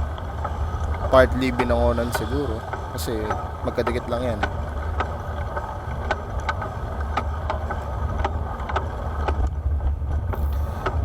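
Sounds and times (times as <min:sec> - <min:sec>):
bicycle clicks and rattles: 0:00.0 - 0:11.0
rumble of wind and tyres: 0:00.0 - 0:11.0.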